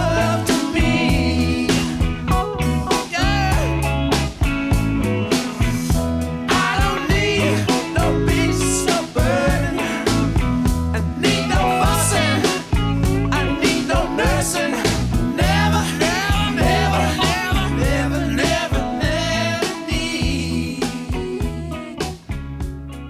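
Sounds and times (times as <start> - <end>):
person singing: 0.0 - 4.0, 5.3 - 22.3
steady beat: 0.0 - 19.2
guitar: 0.0 - 23.0.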